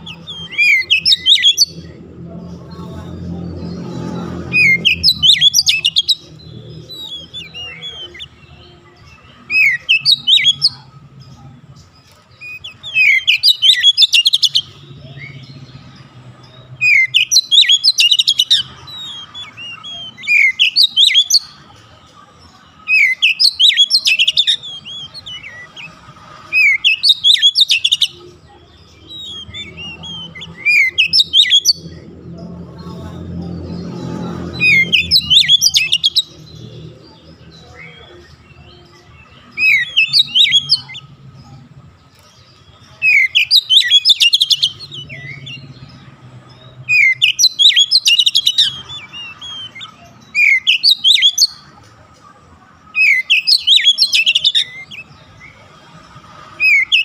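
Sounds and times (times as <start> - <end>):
magpie-robin singing whistled notes: 0.0 - 2.0, 4.5 - 21.6, 22.8 - 32.1, 33.6 - 41.2, 42.2 - 51.6, 52.9 - 55.6, 56.6 - 57.0.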